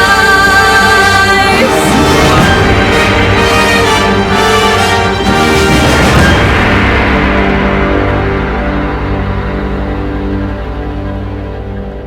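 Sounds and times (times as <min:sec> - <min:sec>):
loud instrumental music: 0:00.0 - 0:12.0.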